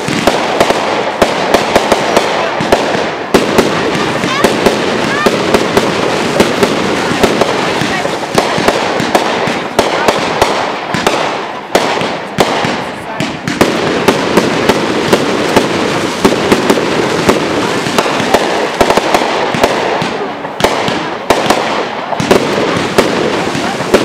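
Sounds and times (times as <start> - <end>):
fireworks bangs: 0.0 - 24.0
fireworks crackle: 0.0 - 24.0.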